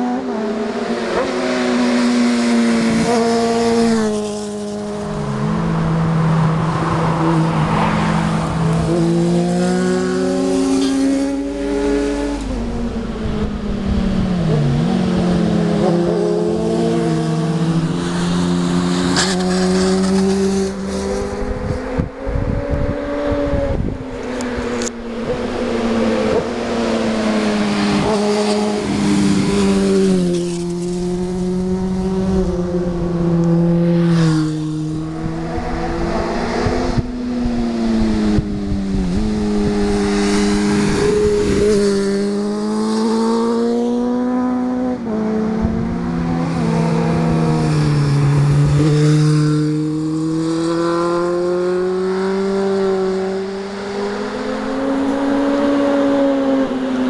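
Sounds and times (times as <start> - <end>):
motorcycle engine at high revs: 0.0 - 6.6, 7.2 - 57.0.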